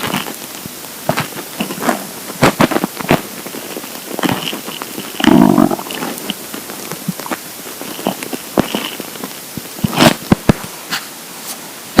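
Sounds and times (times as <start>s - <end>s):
stomach gurgling: 0.0s - 10.7s.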